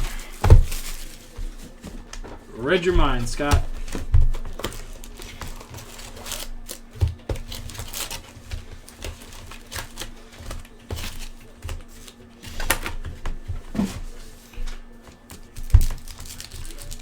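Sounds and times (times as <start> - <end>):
wrappers crinkling and tearing: 0.0 - 13.1, 13.8 - 17.0
steady low hum: 0.0 - 17.0.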